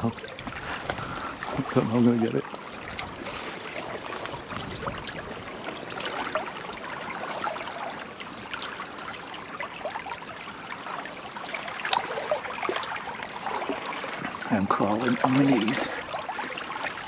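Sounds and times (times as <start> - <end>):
stream babbling over stones: 0.0 - 17.0.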